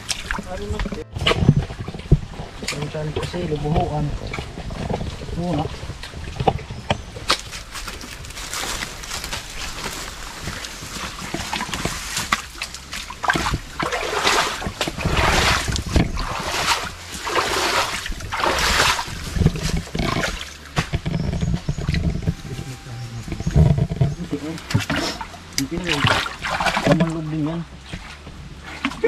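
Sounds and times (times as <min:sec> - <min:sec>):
water splashing and sloshing: 0:00.0 - 0:29.0.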